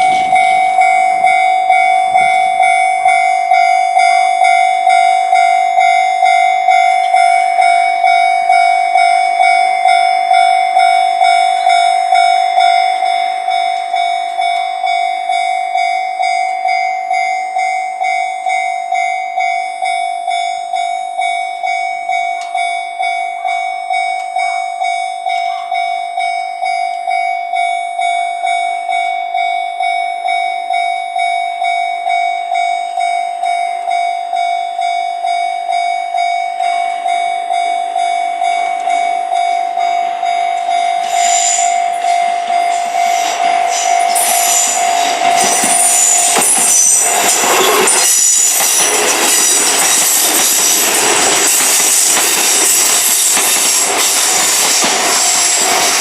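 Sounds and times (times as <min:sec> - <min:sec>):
level-crossing warning bell ringing: 0:00.0 - 0:56.0.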